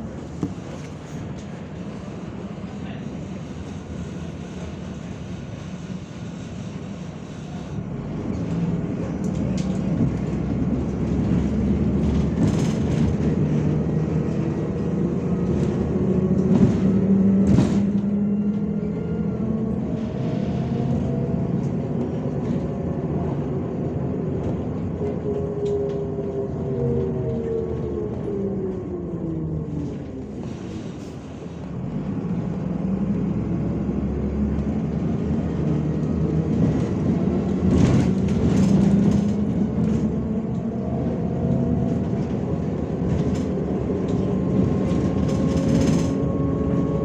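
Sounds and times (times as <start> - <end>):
bus engine running: 0.0 - 47.0
rising engine and drive whine: 0.0 - 47.0.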